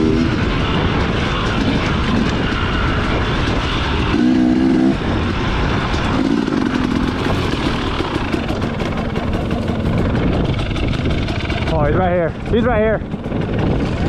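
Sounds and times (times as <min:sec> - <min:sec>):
dirt bike engine running: 0:00.0 - 0:14.0
steady rushing noise: 0:00.0 - 0:14.0.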